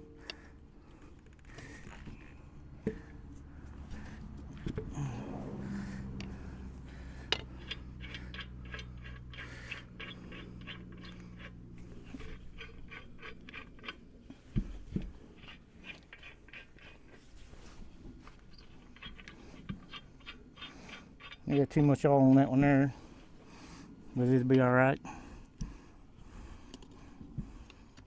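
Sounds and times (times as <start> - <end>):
lug nuts scraping and clicking: 0.0 - 22.8
low steady hum: 0.0 - 28.0.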